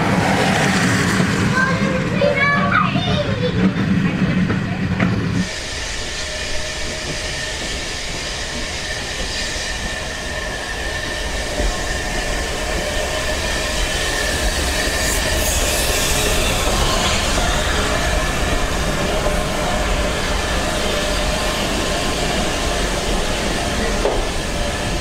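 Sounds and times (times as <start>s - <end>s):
steam train rolling rumble: 0.0s - 25.0s.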